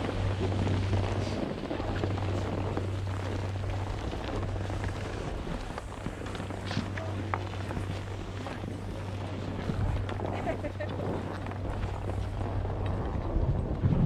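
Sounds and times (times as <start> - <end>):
skis sliding on snow: 0.0 - 13.3
wind noise on microphone: 0.0 - 14.0.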